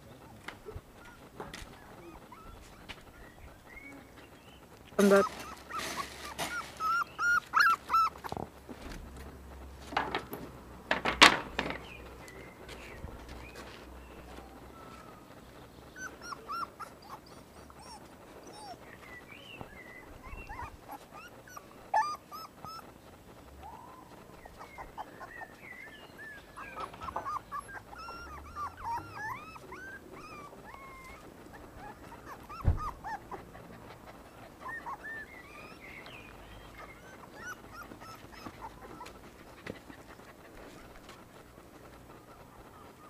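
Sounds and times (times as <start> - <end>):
puppies whimpering and yipping: 0.0 - 9.8, 11.7 - 43.0.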